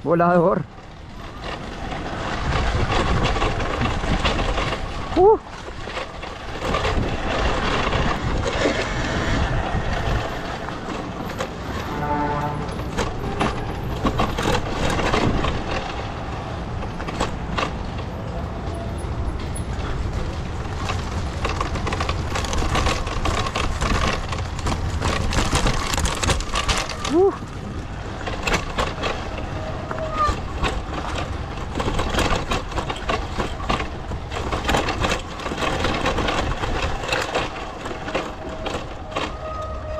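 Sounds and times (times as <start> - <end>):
bike knocking and rattling: 0.0 - 39.9
wind rumble on microphone: 0.9 - 39.9.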